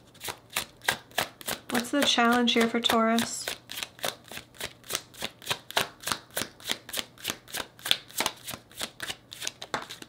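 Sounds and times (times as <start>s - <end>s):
deck of cards shuffling: 0.1s - 10.0s.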